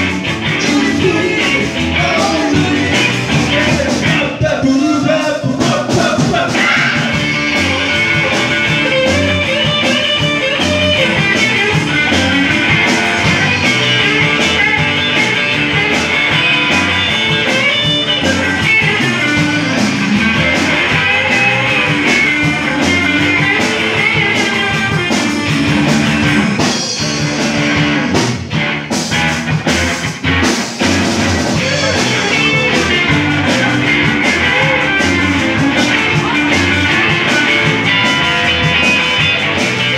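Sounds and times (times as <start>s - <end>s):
drum kit: 0.0s - 39.9s
electric bass: 0.0s - 39.9s
electric guitars: 0.0s - 39.9s.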